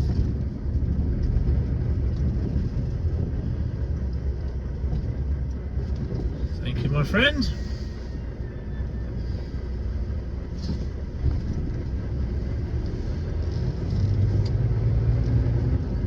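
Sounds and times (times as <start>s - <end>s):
diesel lorry engine rumbling: 0.0s - 16.0s.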